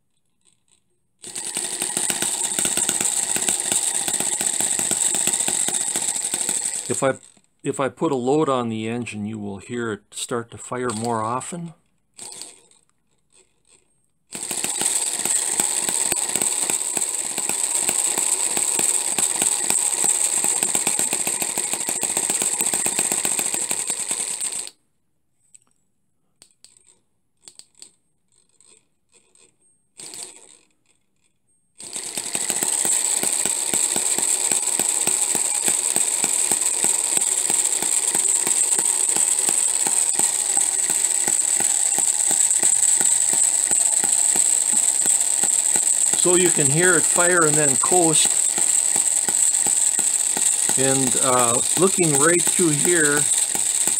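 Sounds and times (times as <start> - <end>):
small engine clattering: 0.4 - 7.5, 12.2 - 24.7, 26.6 - 31.0, 31.8 - 53.9.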